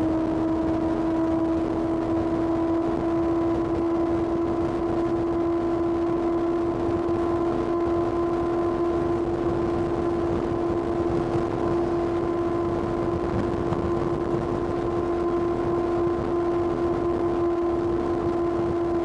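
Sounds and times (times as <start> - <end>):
motorcycle engine at steady revs: 0.0 - 19.0.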